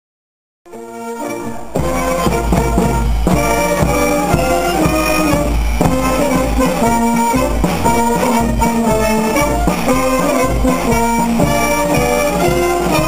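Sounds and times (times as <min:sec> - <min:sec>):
brass band playing: 0:00.7 - 0:13.0.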